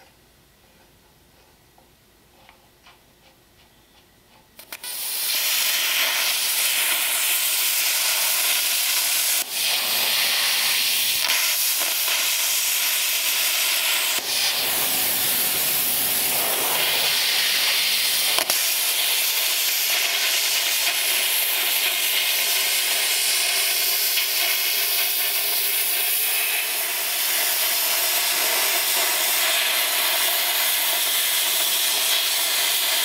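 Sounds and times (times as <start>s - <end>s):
compressed air hissing: 4.6s - 33.0s.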